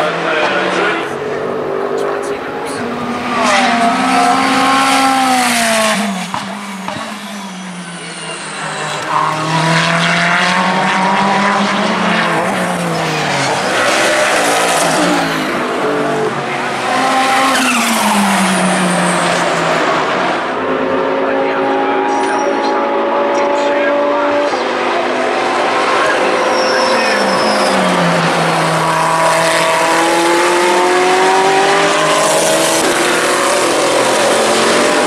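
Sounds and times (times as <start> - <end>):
race car engine passing: 0.0 - 35.0.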